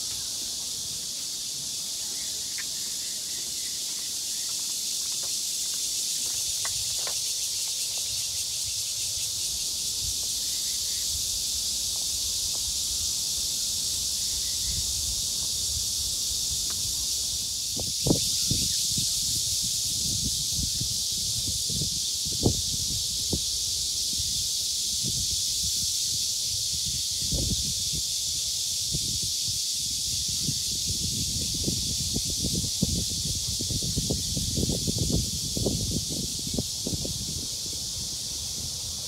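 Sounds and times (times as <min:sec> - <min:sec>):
insects buzzing chorus: 0:00.0 - 0:39.0.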